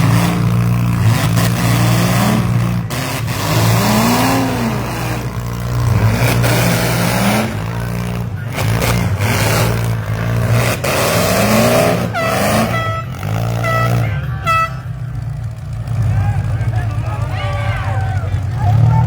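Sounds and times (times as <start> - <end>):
engines revving: 0.0 - 19.0
vehicles crashing bangs: 0.0 - 19.0
car horn: 0.2 - 17.7.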